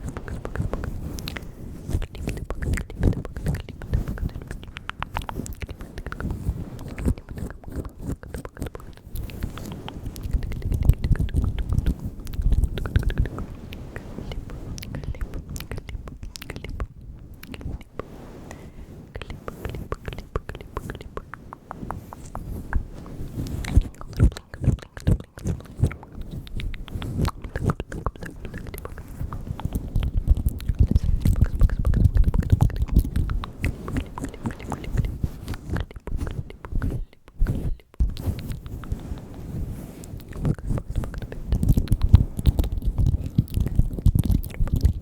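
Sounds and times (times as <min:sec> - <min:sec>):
wet mouth clicks and smacks: 0:00.0 - 0:18.1, 0:19.2 - 0:39.4, 0:40.0 - 0:45.0.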